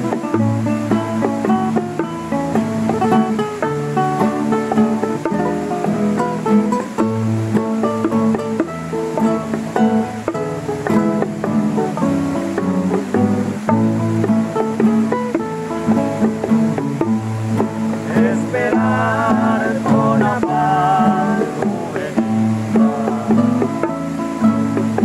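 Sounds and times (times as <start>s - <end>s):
acoustic guitars playing: 0.0s - 25.0s.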